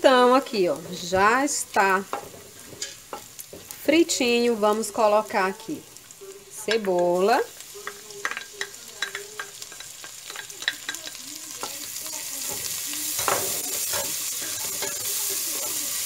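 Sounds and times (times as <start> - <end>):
sausage sizzling in oil: 0.0 - 16.0.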